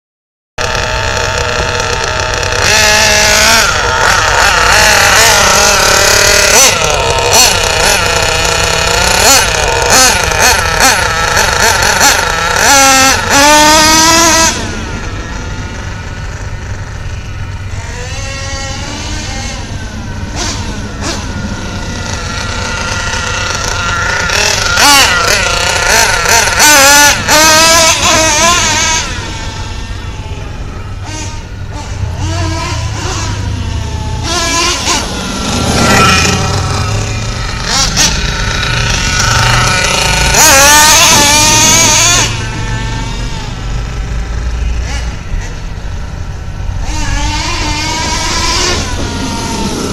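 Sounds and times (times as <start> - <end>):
small nitro engine revving: 0.6 - 49.9.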